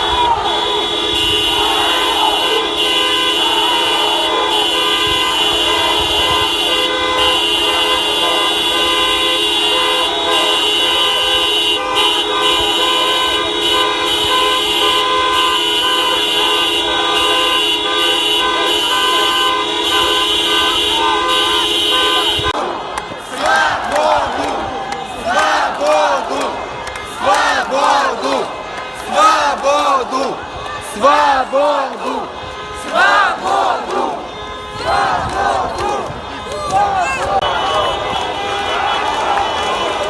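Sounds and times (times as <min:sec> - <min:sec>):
many car horns honking: 0:00.0 - 0:40.0.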